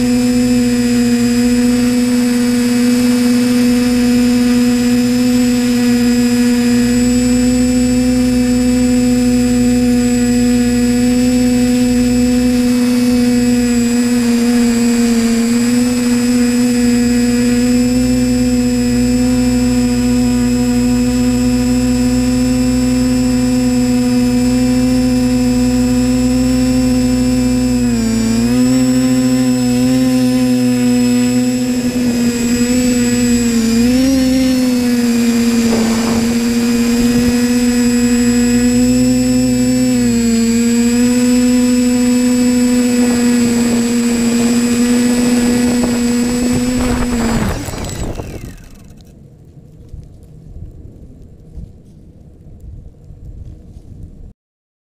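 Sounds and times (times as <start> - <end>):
drone motors whining: 0.0 - 49.2.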